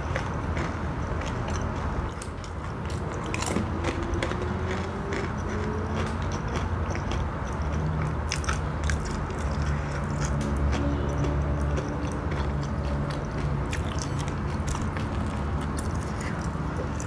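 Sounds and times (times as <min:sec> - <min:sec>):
closed-mouth chewing: 0:00.0 - 0:17.0
low uneven hum: 0:00.0 - 0:17.0.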